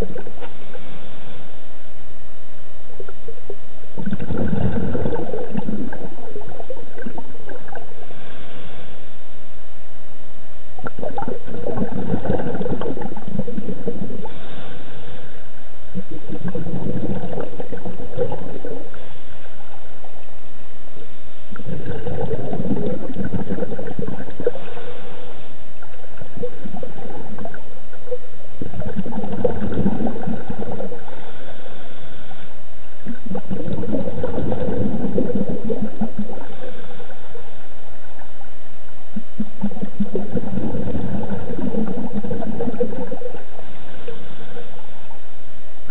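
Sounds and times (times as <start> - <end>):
exhaled bubbles gurgling underwater: 0.0 - 9.8, 10.6 - 45.9.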